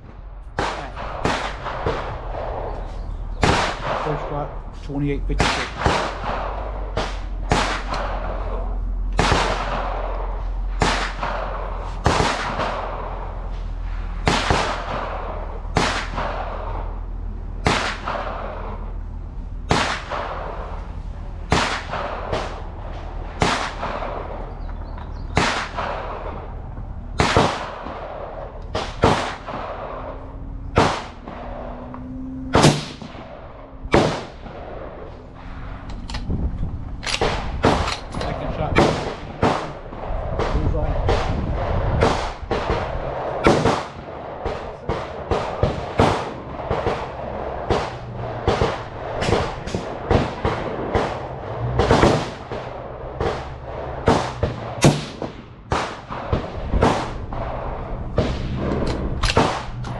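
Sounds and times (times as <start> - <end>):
low rumble: 0.0 - 59.9
rifle gunshots with echo: 0.0 - 59.9.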